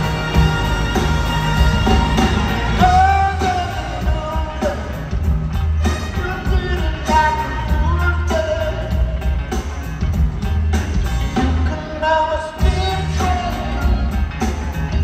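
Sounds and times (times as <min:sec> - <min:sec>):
bass and drums groove: 0:00.0 - 0:15.0
sliding lead guitar melody: 0:00.0 - 0:15.0.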